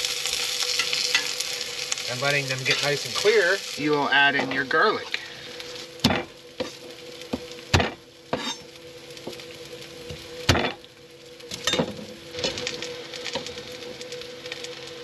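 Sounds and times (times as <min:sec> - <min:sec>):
faint steady hum: 0:00.0 - 0:15.0
onions sizzling in oil: 0:00.0 - 0:15.0.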